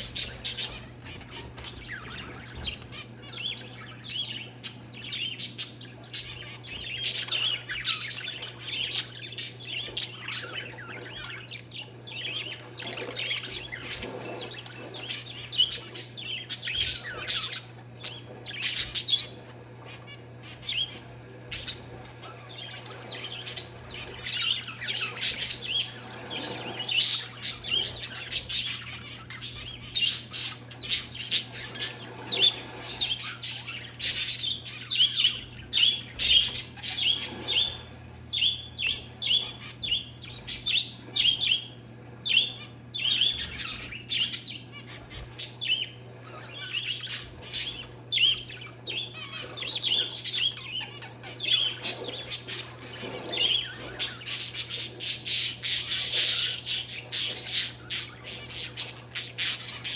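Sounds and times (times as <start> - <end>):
parakeets and finches chirping: 0.0 - 59.9.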